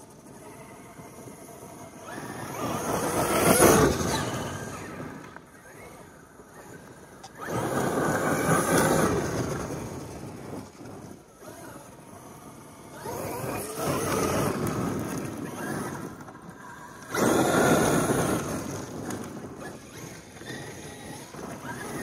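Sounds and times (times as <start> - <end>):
electric motor whine: 0.0 - 22.0
tyres churning dirt: 0.1 - 22.0.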